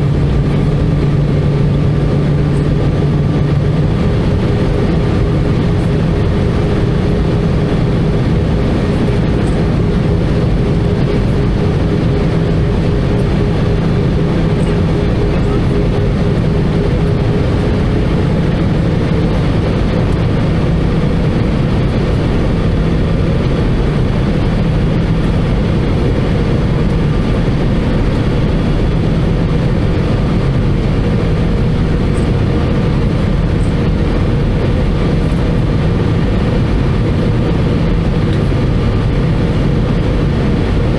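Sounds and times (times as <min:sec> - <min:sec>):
airflow rushing over fuselage: 0:00.0 - 0:40.9
jet engines humming: 0:00.0 - 0:40.9.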